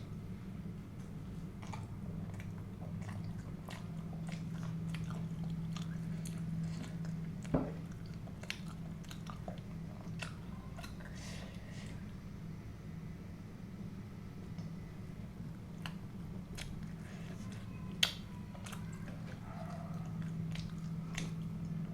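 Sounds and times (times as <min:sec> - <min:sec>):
chewing and biting food: 0:01.0 - 0:12.2, 0:15.5 - 0:21.9.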